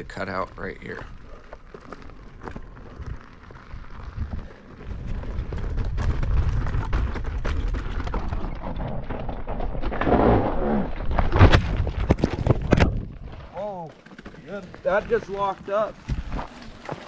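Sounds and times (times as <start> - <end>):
gravel crunches and knocks: 0.0 - 17.0
tyre and wind rumble: 0.0 - 17.0.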